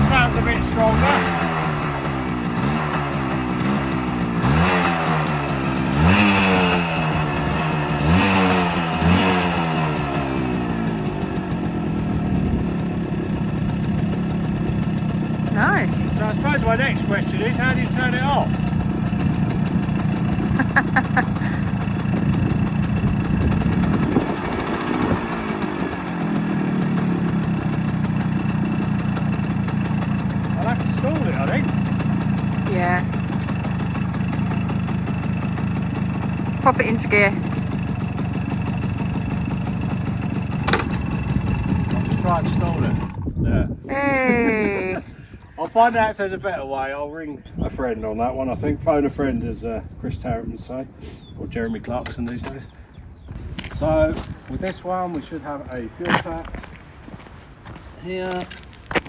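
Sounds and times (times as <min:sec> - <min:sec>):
moped engine idling and revving: 0:00.0 - 0:47.0, 0:51.9 - 0:57.0.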